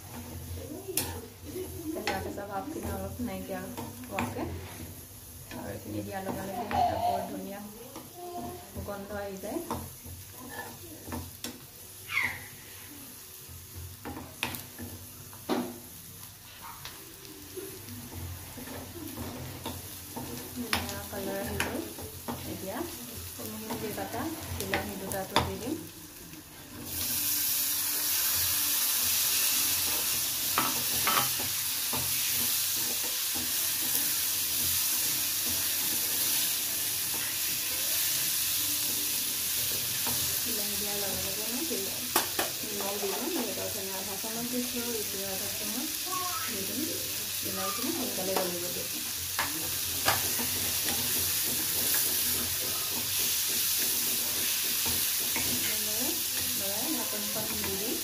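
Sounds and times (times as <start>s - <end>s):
loud steady sizzle: 0.0s - 58.0s
vegetables frying in oil: 0.0s - 58.0s.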